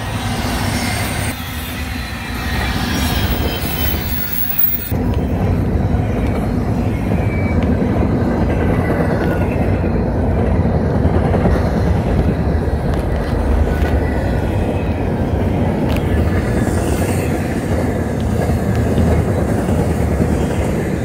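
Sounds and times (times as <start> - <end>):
freight train wheels rumbling on rail: 0.0 - 21.0.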